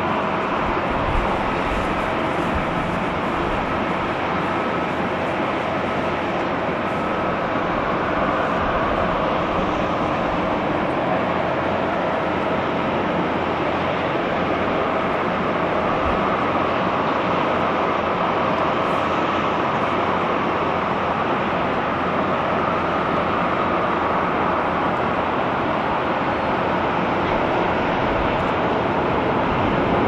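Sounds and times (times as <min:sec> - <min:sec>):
jet engines at takeoff thrust: 0:00.0 - 0:30.0.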